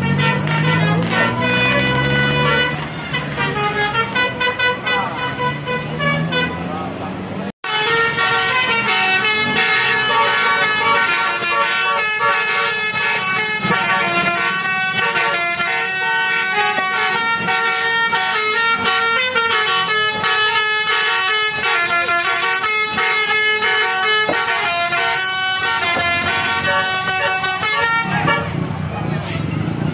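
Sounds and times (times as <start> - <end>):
musical bus horn melody: 0.0 - 6.7, 7.6 - 29.8.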